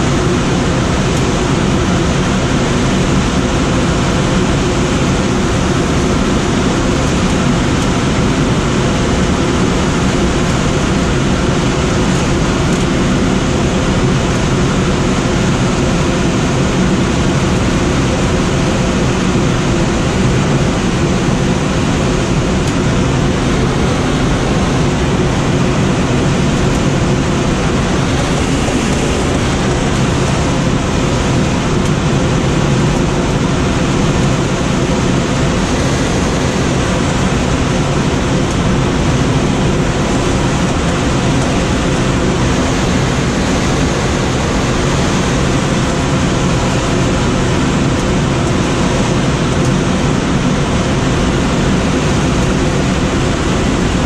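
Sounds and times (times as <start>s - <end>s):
air rushing over glider: 0.0s - 54.0s.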